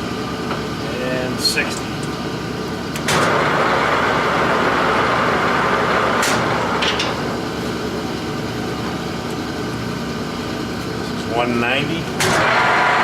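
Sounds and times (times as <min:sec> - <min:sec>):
lathe running: 0:00.1 - 0:13.0.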